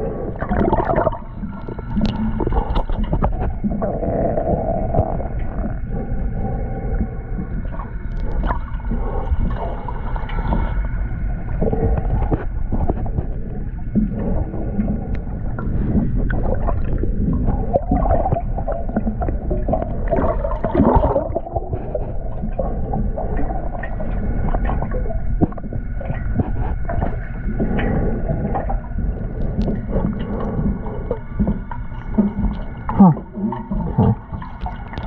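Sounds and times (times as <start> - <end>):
low rumble: 0.0 - 34.8
faint steady hum: 0.0 - 35.0
gurgling bubbles: 0.0 - 35.0
underwater water sloshing: 0.0 - 35.0.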